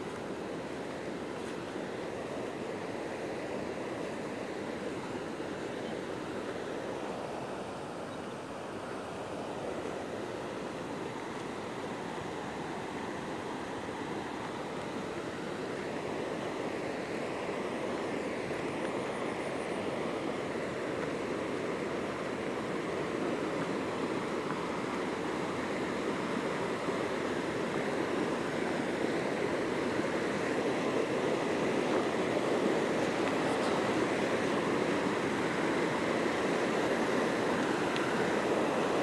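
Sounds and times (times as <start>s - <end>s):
river rushing over stones: 0.0s - 39.0s.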